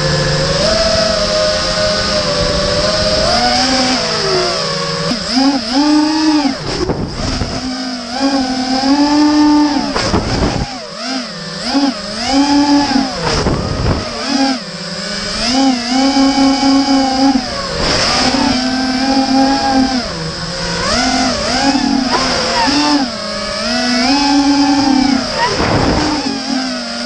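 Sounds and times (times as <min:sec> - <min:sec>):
drone motors and propellers whining: 0:00.0 - 0:27.0.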